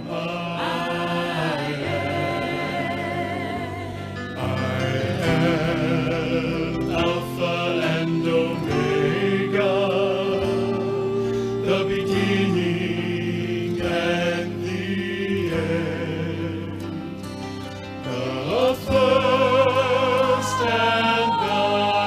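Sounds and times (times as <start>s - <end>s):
gospel vocal harmony: 0.0s - 22.0s
sustained accompaniment: 0.0s - 22.0s.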